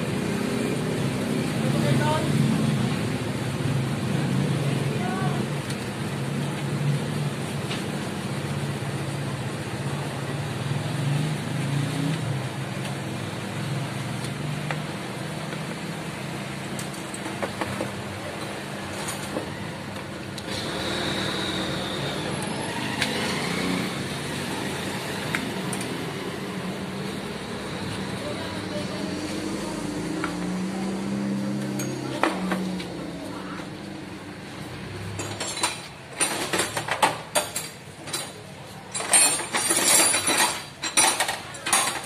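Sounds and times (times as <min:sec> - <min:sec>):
motor vehicle running: 0:00.0 - 0:37.6.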